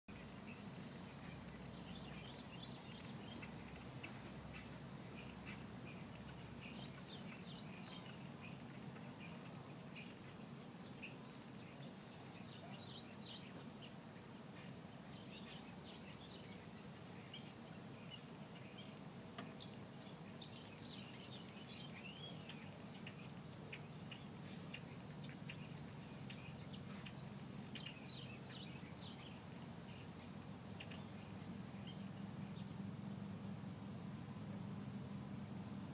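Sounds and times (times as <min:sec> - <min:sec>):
low background hum: 0:00.1 - 0:35.9
small birds chirping: 0:00.1 - 0:35.9.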